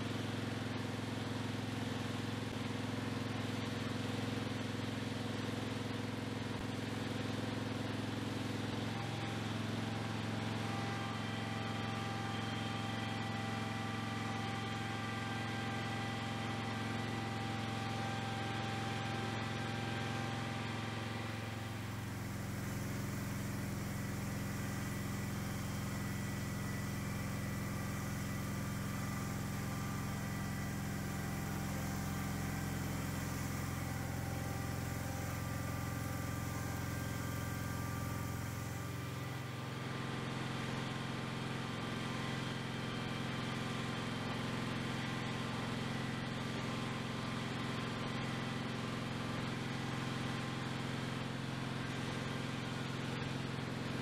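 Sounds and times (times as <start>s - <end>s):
garden tractor engine running: 0.0s - 54.0s.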